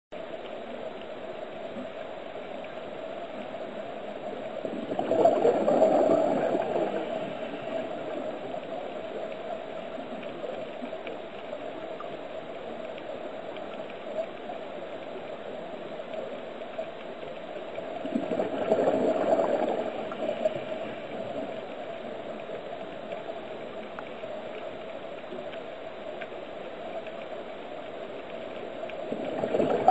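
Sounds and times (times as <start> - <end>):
steady underwater hum: 0.1 - 29.9.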